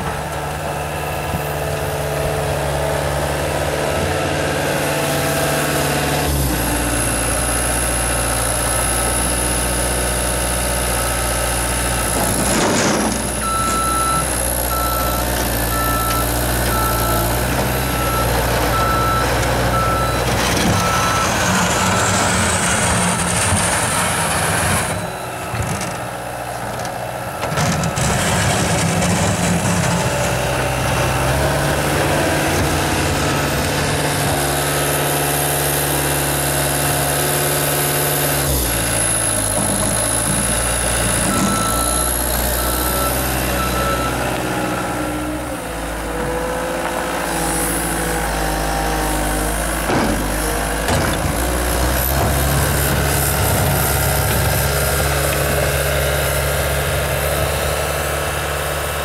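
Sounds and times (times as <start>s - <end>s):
diesel engine under load: 0.0s - 59.0s.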